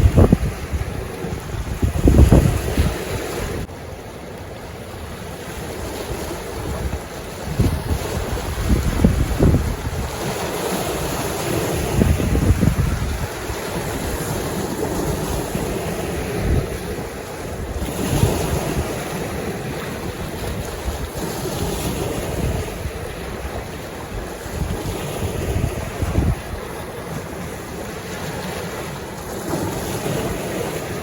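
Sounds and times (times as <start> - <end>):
wind buffeting microphone: 0.0 - 3.7, 5.5 - 31.0
lake waves washing on shore: 0.0 - 31.0.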